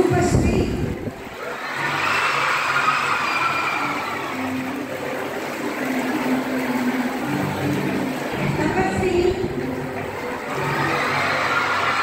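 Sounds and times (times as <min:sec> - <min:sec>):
audience hubbub in a hall: 0:00.0 - 0:12.0.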